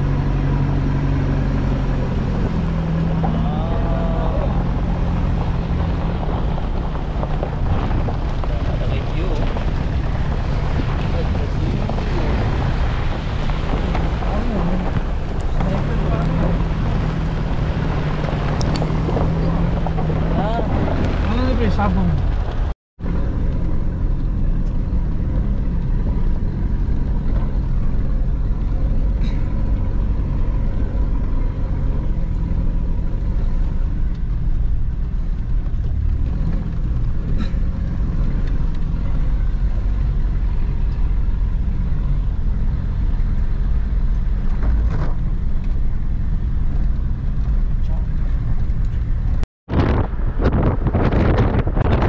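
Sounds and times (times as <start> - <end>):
engine and road rumble: 0.0 - 52.0.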